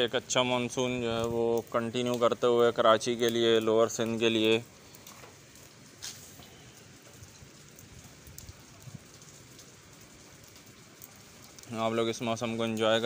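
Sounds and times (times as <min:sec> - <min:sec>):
rain falling on wet street: 0:00.0 - 0:13.0.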